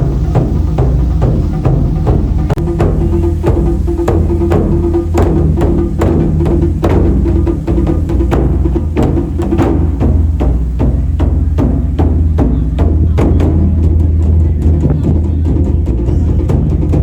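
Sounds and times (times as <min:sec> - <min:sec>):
deep low drum boom: 0:00.0 - 0:17.0
sharp drum strikes: 0:00.0 - 0:17.0.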